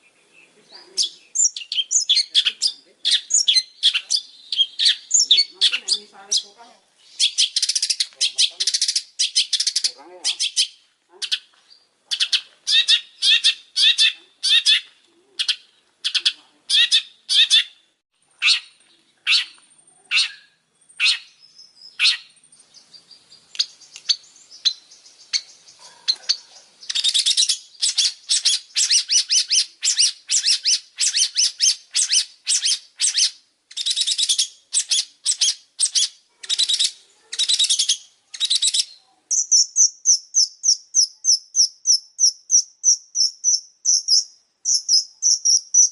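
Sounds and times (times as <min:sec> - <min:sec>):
bird chattering and trilling: 0:00.0 - 0:45.9.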